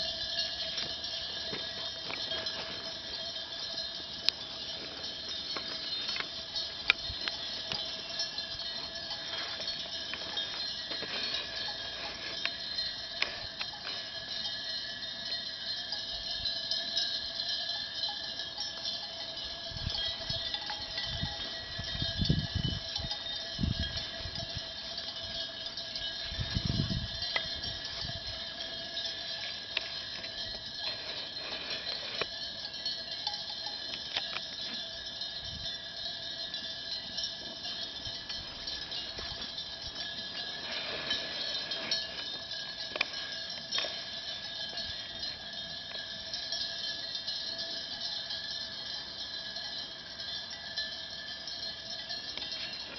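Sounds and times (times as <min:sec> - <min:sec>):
sheep bells clinking: 0:00.0 - 0:52.9.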